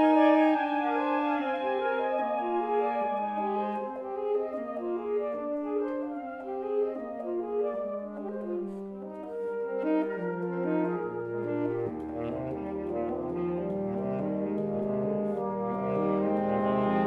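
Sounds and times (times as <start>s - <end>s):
saxophone quartet playing chords: 0.0s - 17.0s.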